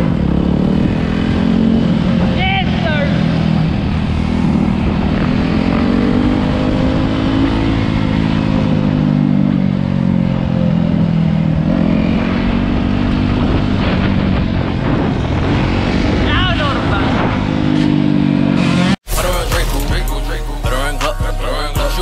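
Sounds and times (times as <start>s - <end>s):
dirt bike engine running: 0.0s - 20.2s.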